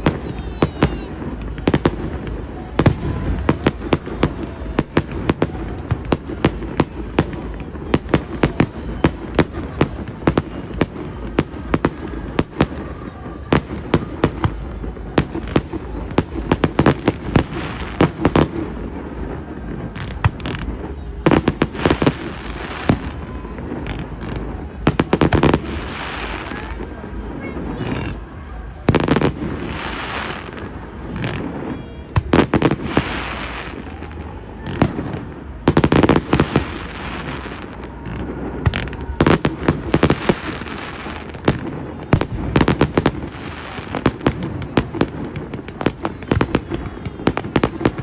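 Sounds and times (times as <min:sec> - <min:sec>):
fireworks bangs: 0:00.0 - 0:48.0.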